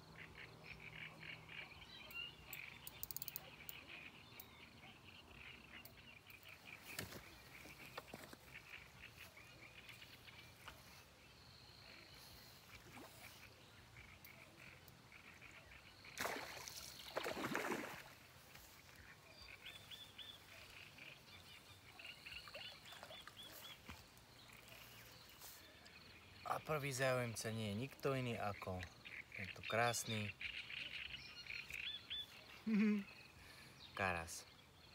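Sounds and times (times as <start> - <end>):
frogs calling: 0.0 - 34.8.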